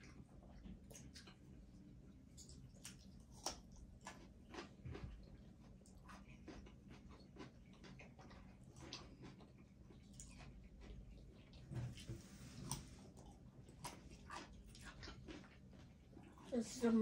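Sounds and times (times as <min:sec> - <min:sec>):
faint chewing: 0:00.0 - 0:17.0
small eating clicks: 0:00.0 - 0:17.0.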